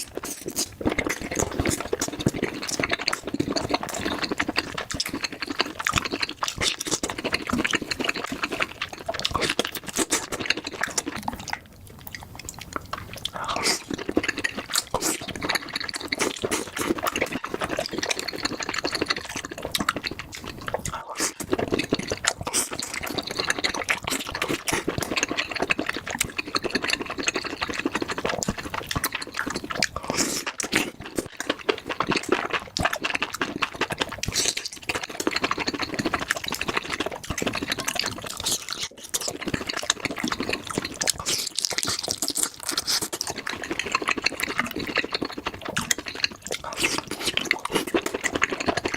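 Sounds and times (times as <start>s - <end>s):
wet eating squelches: 0.0s - 48.9s.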